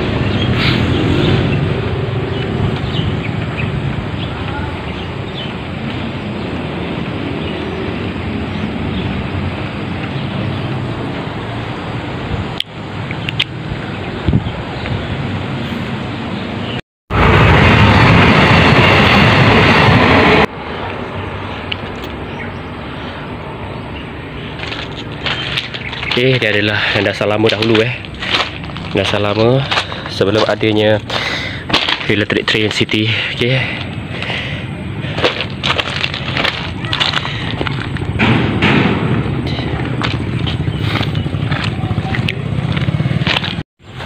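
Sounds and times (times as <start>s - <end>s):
train passing: 0.0s - 13.0s, 14.6s - 43.2s
outdoor rushing and rumbling: 0.0s - 44.0s.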